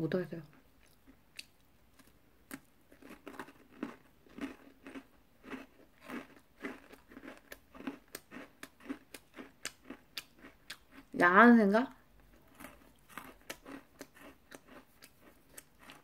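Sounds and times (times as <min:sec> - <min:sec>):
cookie crunching chews: 0:00.5 - 0:11.2, 0:12.1 - 0:16.0.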